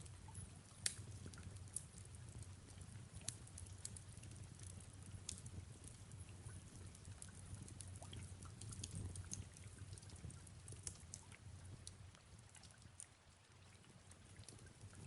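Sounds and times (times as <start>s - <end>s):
soft rain patter: 0.0s - 15.0s
wood fire crackling: 0.0s - 15.0s.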